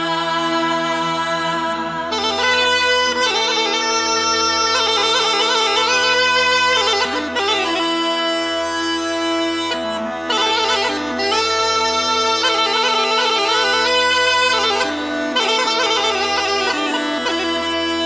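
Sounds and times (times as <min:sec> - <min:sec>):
bagpipe-like folk melody with drone: 0:00.0 - 0:18.0.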